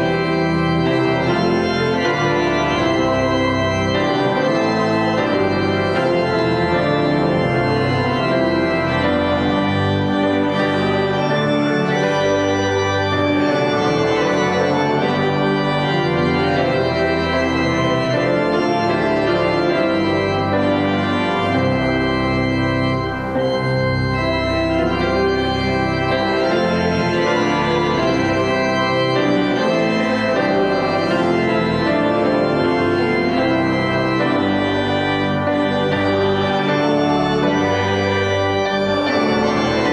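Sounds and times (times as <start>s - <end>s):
church organ playing chords: 0.0s - 39.9s.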